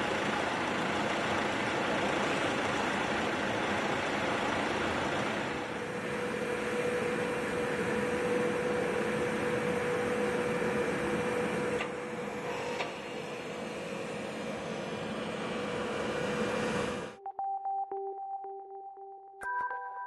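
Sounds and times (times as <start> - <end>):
train rolling noise: 0.0 - 17.2.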